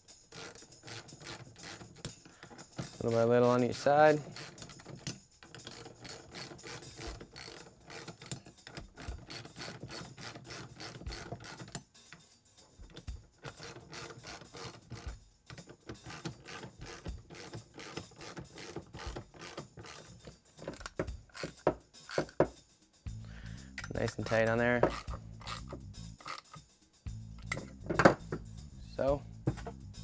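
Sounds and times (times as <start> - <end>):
hand ratchet clicking: 0.1 - 28.8.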